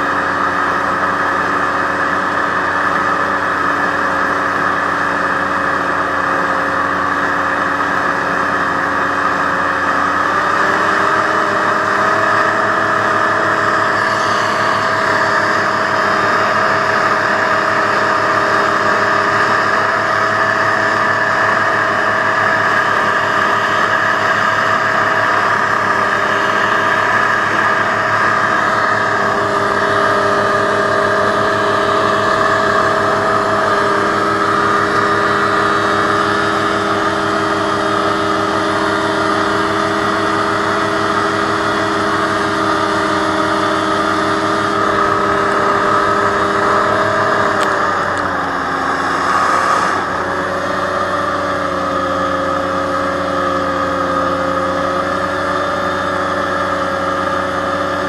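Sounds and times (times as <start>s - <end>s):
hovercraft engine and fan: 0.0s - 58.0s.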